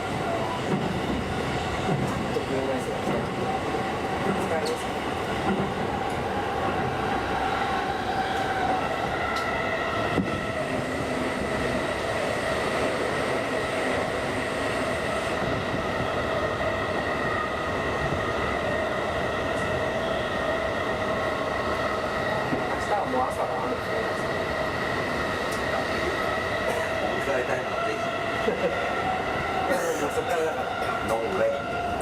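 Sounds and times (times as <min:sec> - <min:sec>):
train drive whine: 0:00.0 - 0:32.0
train wheels on rails: 0:00.0 - 0:32.0.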